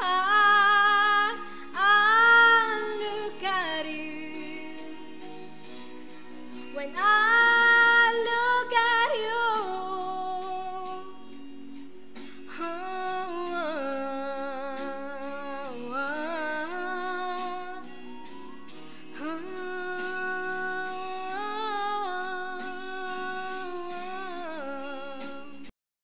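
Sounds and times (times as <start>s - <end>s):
soft instrumental accompaniment: 0.0s - 25.7s.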